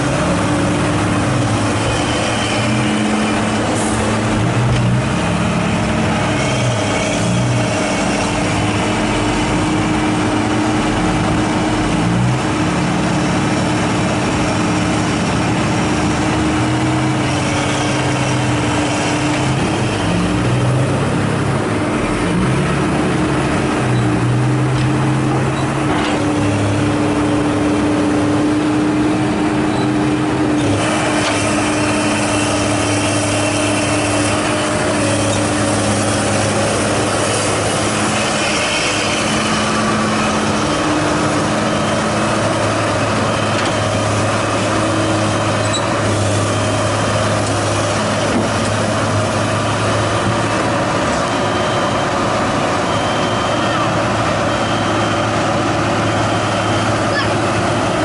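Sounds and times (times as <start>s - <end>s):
dump truck diesel engine running: 0.0s - 58.0s
excavator diesel engine running: 0.0s - 58.0s.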